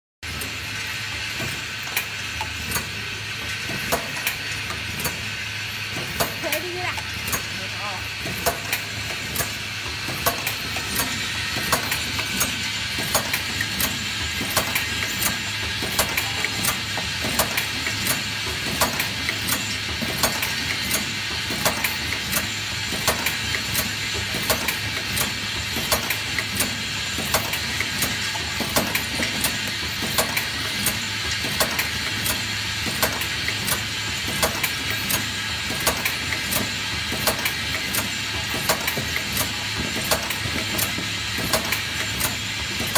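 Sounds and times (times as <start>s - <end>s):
motor hum: 0.3s - 42.9s
machine clicking: 8.3s - 42.9s.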